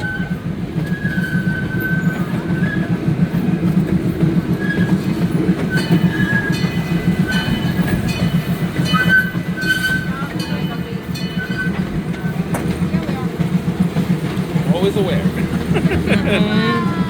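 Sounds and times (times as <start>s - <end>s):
train cars rumbling on track: 0.0s - 17.0s.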